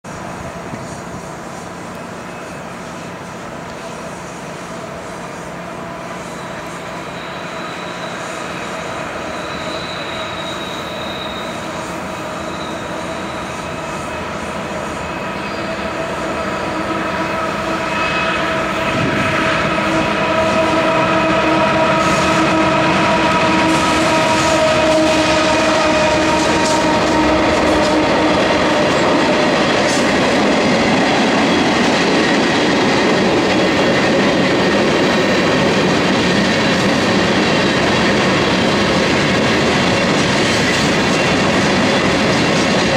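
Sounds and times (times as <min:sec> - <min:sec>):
diesel locomotive engines droning: 0:00.0 - 0:42.9
high wheel squeal: 0:03.8 - 0:42.9.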